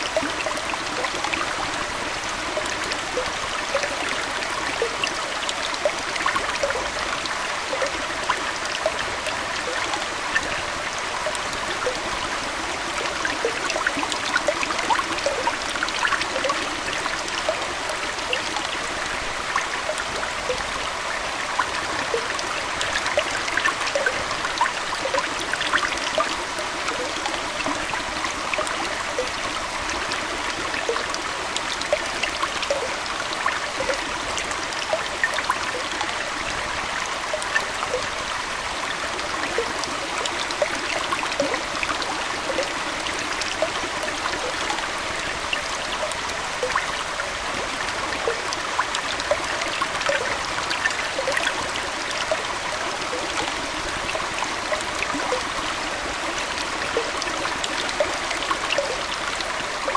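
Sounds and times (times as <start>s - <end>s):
aquarium water trickling: 0.0s - 59.9s
bubbling plinks: 0.0s - 59.9s.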